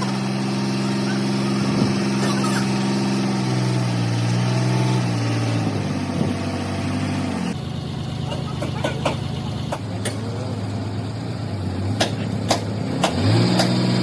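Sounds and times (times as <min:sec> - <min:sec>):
vehicle engine idling: 0:00.0 - 0:04.6, 0:05.2 - 0:14.0.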